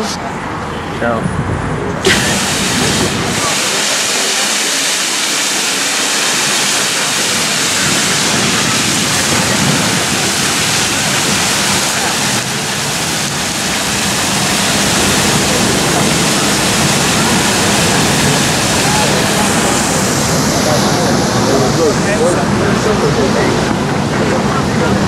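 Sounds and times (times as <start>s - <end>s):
fountain water splashing: 2.0s - 25.0s.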